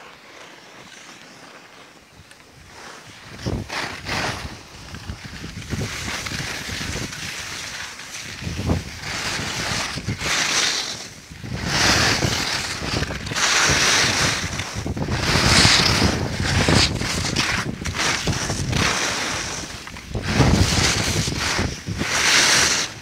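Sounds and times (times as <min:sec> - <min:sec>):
skis scraping over snow: 0:00.0 - 0:23.0
wind buffeting microphone: 0:03.2 - 0:07.6, 0:08.2 - 0:23.0.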